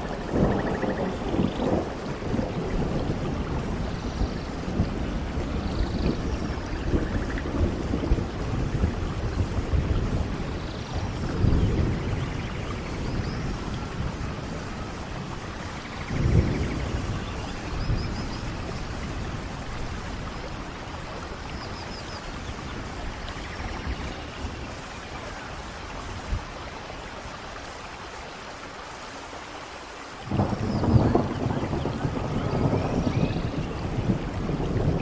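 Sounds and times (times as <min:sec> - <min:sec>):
thunder rumbling: 0:00.0 - 0:27.6, 0:30.2 - 0:35.0
steady rain: 0:00.0 - 0:35.0.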